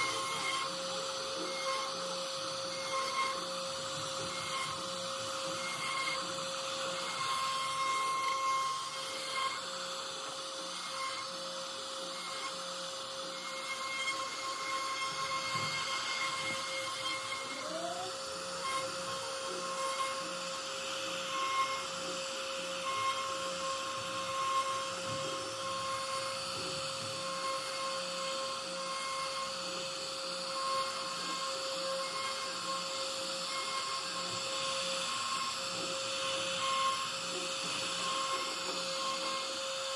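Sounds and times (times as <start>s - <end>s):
high motor tones: 0.0s - 39.9s
hiss of wood cutting: 0.0s - 39.9s
router spindle whining: 0.0s - 39.9s.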